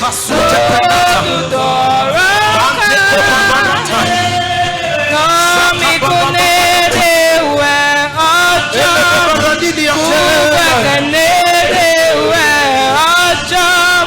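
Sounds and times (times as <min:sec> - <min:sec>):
person singing slow song: 0:00.0 - 0:14.0
sustained keyboard chords: 0:00.3 - 0:13.1.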